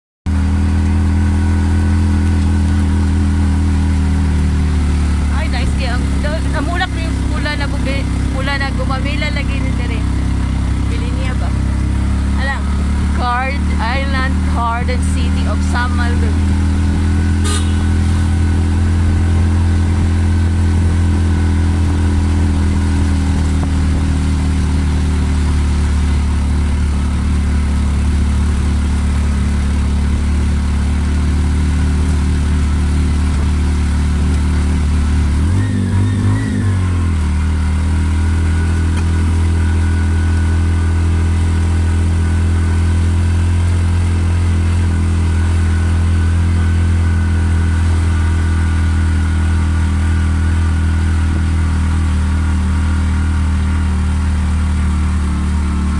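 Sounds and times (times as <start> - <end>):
motorcycle engine running: 0.3 - 55.9.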